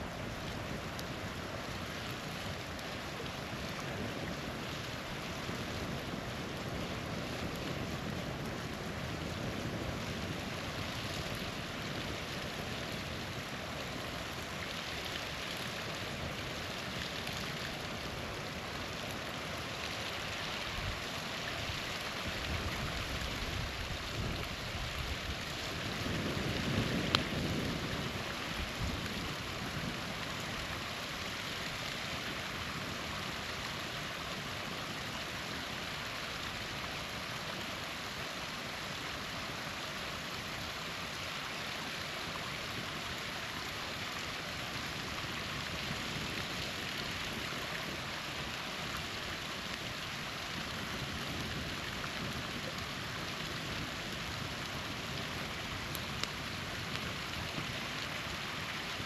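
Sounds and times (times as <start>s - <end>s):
campfire crackling: 0.0s - 59.0s
small waterfall rushing: 0.0s - 59.0s.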